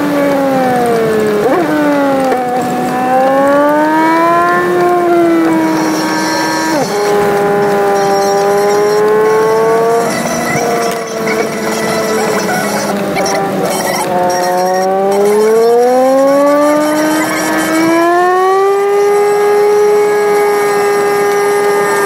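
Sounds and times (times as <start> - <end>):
sped-up car engine: 0.0 - 22.0.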